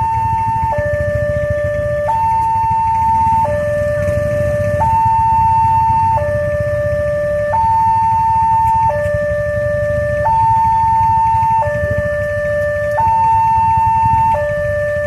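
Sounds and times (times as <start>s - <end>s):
two-tone level crossing siren: 0.0s - 15.0s.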